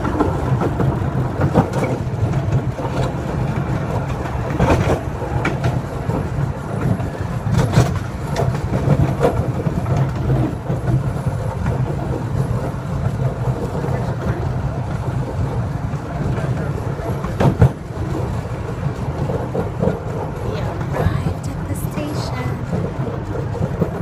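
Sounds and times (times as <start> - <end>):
wheels clicking over rail joints: 0.0 - 21.0, 22.6 - 24.0
miniature train rumbling: 0.0 - 24.0.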